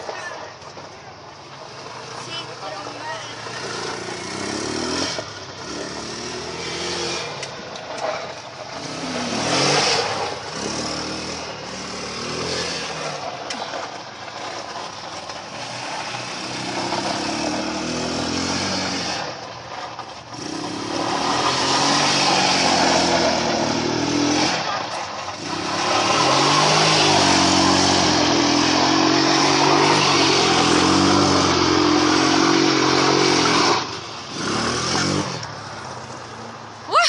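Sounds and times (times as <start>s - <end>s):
atv engines revving: 0.0s - 37.0s.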